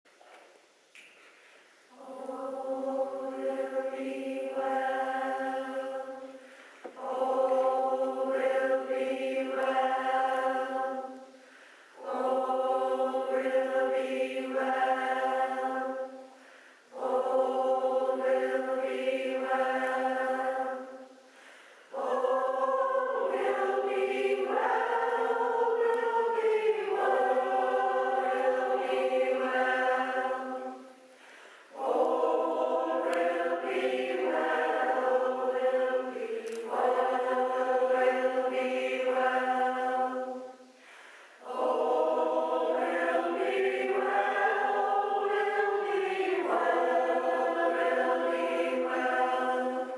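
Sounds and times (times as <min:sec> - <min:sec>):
mixed choir singing: 0:01.9 - 0:49.9.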